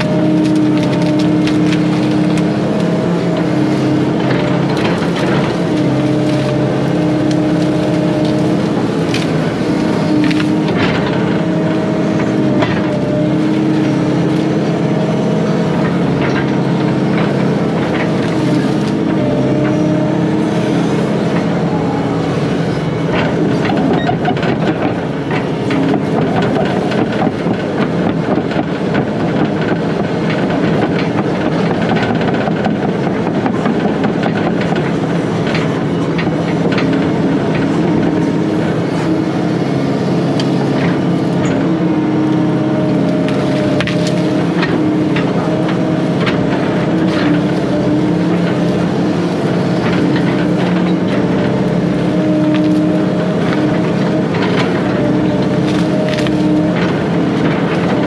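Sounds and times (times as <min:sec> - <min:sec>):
diesel excavator engine running: 0:00.0 - 0:58.0.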